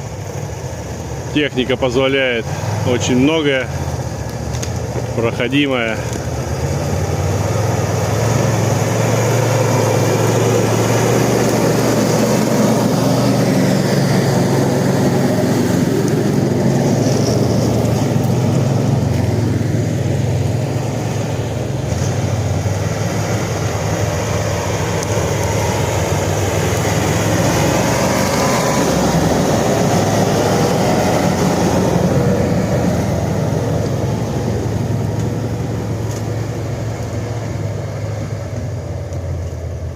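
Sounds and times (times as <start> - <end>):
all-terrain vehicle engine running: 0.0 - 39.9.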